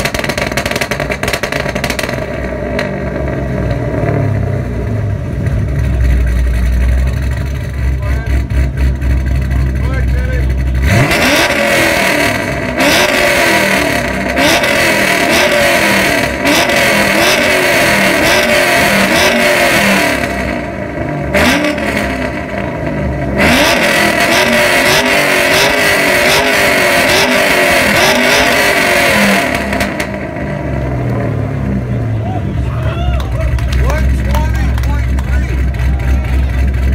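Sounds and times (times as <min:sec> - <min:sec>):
car engine revving in blips: 0:00.0 - 0:32.2.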